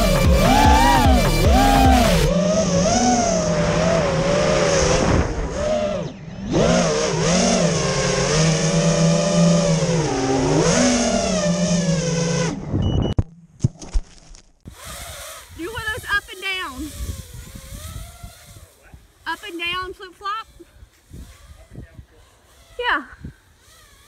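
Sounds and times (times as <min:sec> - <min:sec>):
drone motors whining: 0:00.0 - 0:13.5, 0:14.7 - 0:24.0.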